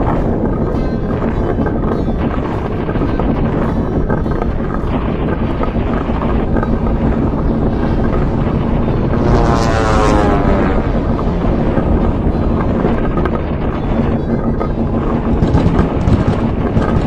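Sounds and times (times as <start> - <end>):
dense low rumble: 0.0 - 17.0
faint hum: 0.0 - 17.0.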